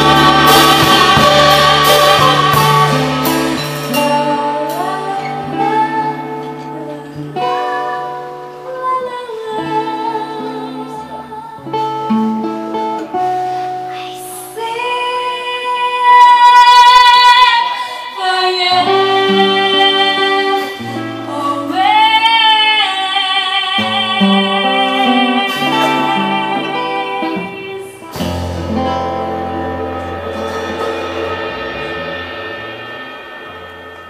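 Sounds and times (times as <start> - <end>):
person singing: 0.0 - 12.8, 13.4 - 34.0
strummed acoustic guitar: 0.0 - 34.0.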